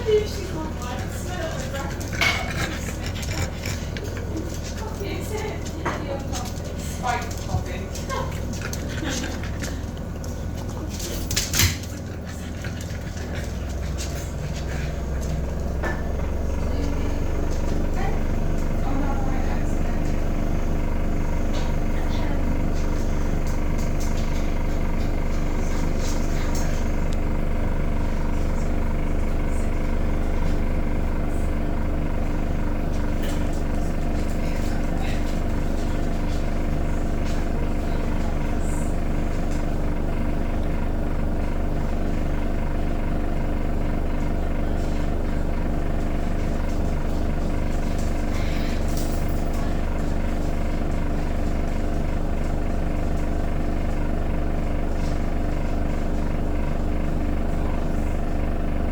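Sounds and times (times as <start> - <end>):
washing machine spin hum: 0.0 - 58.9.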